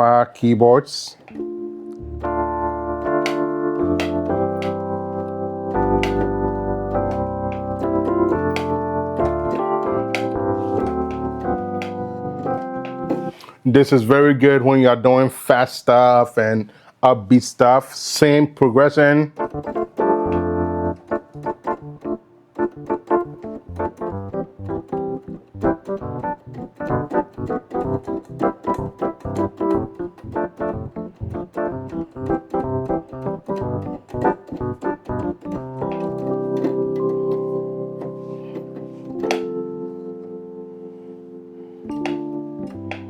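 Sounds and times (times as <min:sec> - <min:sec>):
electric piano playing chords: 0:01.2 - 0:13.4, 0:19.3 - 0:43.0.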